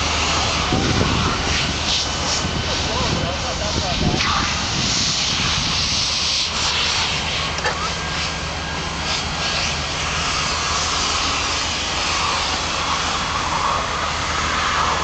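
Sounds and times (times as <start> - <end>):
pressure washer engine running: 0.0 - 15.0
steady hiss: 0.0 - 15.0.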